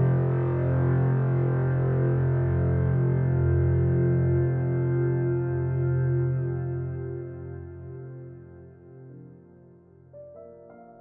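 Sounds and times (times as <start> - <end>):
music of long held low notes: 0.0 - 10.0.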